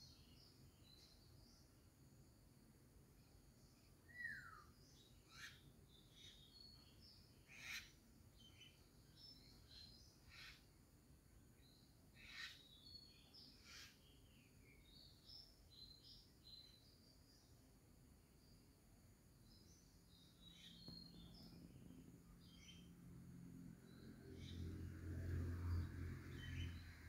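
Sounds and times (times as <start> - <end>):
faint birdsong: 0.0 - 27.0.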